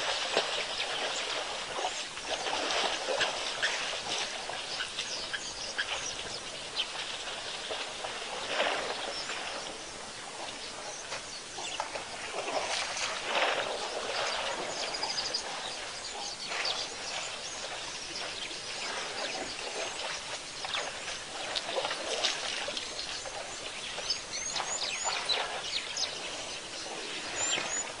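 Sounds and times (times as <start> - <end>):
birds chirping: 3.4 - 12.1, 13.7 - 28.0.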